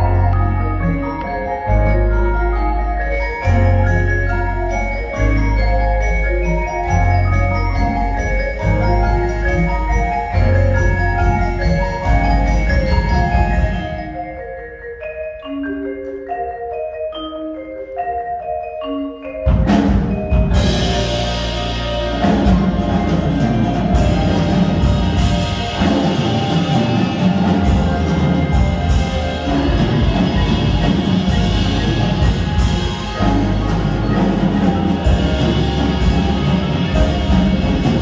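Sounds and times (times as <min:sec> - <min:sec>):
marimbas and xylophones playing: 0:00.0 - 0:38.0.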